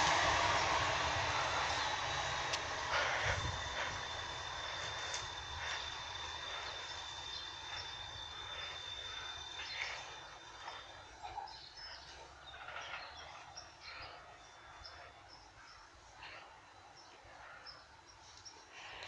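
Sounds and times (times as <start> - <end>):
tram rolling along track: 0.0 - 19.0
small birds chirping: 1.6 - 19.0.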